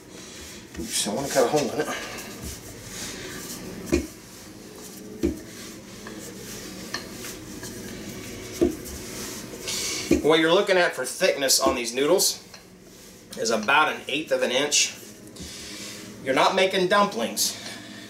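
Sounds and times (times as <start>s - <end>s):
rolling pin rolling dough: 0.3s - 15.7s.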